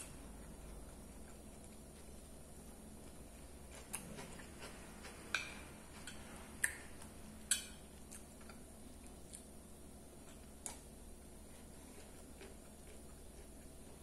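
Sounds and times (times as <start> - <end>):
person chewing with crunches: 0.0 - 14.0.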